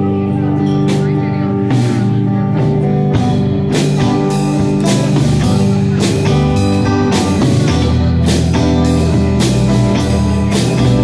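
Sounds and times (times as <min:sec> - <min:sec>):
bass guitar: 0:00.0 - 0:11.0
drum kit with cymbal hits: 0:00.0 - 0:11.0
electric guitars: 0:00.0 - 0:11.0.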